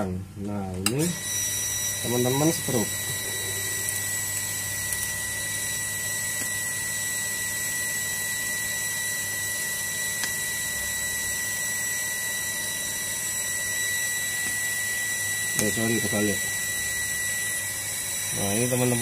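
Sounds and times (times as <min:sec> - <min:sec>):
high-pitched whine: 0:00.9 - 0:19.0.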